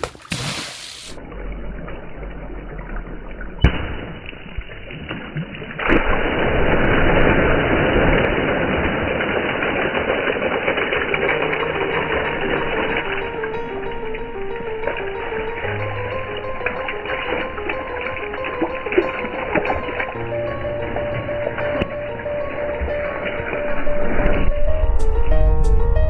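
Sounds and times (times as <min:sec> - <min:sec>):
water splashing: 0:00.0 - 0:25.6.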